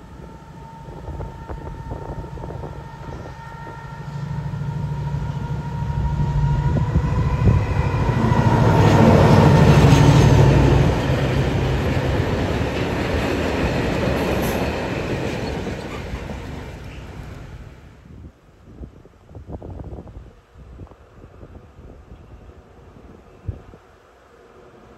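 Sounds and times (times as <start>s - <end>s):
train passing at speed: 0.0s - 18.3s, 19.6s - 24.9s.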